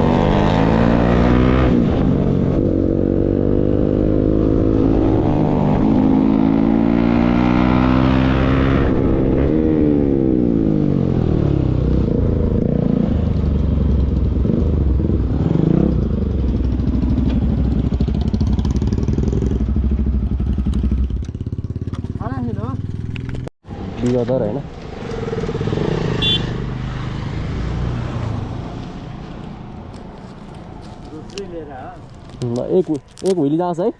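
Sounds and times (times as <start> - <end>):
motorcycle engine revving: 0.0 - 29.6.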